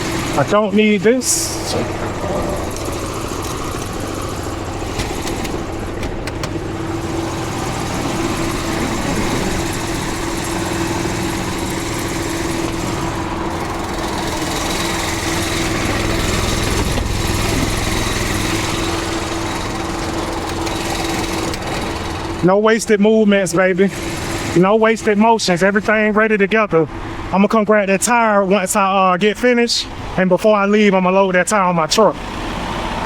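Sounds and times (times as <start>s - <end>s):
air compressor engine running: 0.0s - 28.2s, 32.0s - 33.0s.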